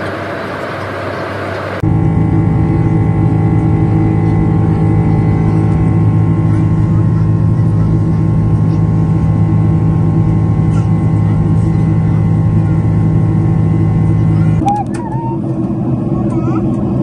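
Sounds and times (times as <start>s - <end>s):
airliner engines droning in cabin: 0.0s - 17.0s.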